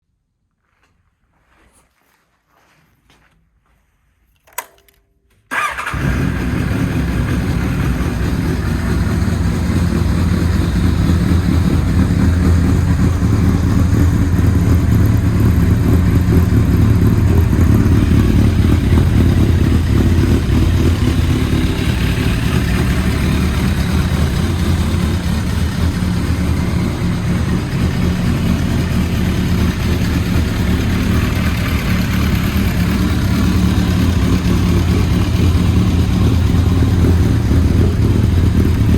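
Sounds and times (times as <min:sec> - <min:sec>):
motorcycle engine starting and running: 0:04.4 - 0:38.9.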